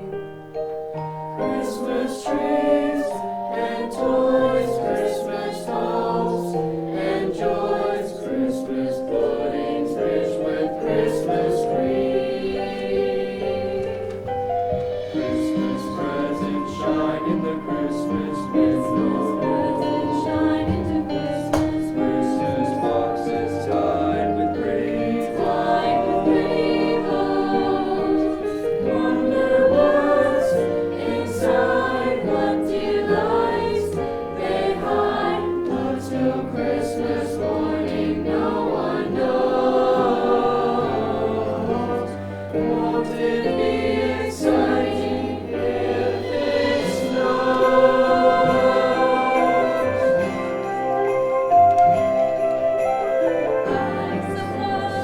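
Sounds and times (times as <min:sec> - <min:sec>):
choir singing in parts: 0:01.0 - 0:55.0.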